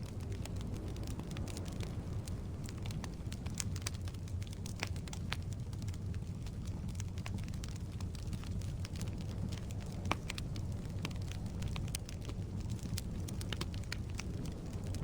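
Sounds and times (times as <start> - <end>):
wood crackling and popping: 0.0 - 15.0.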